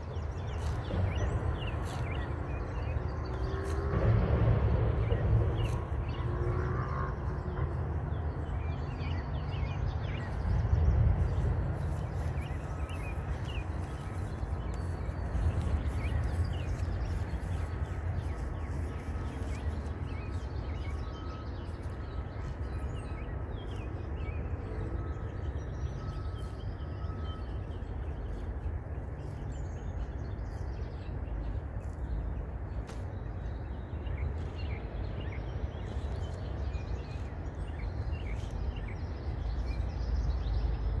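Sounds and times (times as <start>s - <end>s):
bird chirps: 0.0s - 3.9s, 8.2s - 40.9s
low rumble: 0.0s - 41.0s.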